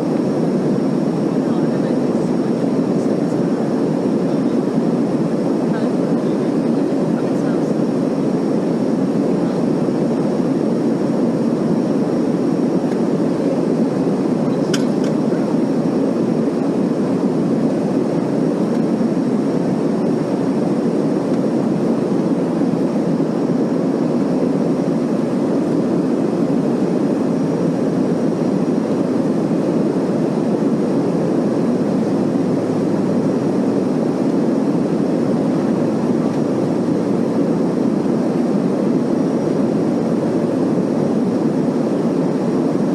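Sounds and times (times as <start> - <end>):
airliner cabin drone: 0.0 - 42.9.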